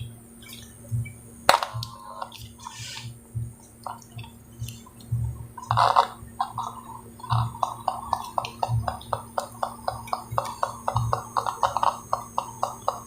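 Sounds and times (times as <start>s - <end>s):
steady low hum: 0.0s - 13.0s
stuttering speaker pulses: 0.0s - 13.0s.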